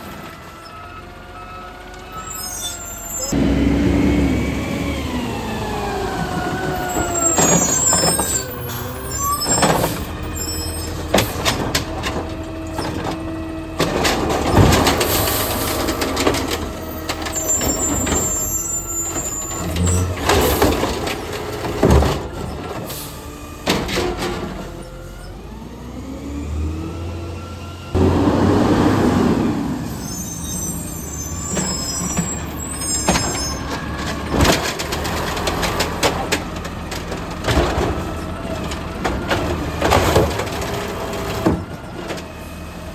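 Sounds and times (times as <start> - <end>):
garbage truck diesel engine: 0.0 - 42.9.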